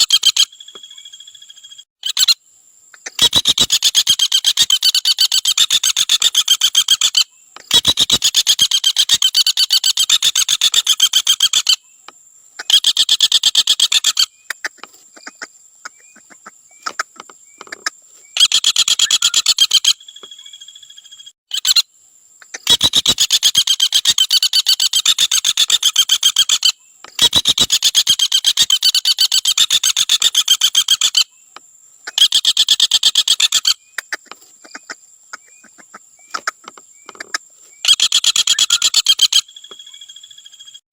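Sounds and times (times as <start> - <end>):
woodpecker trilling rattle call: 0.0 - 40.8.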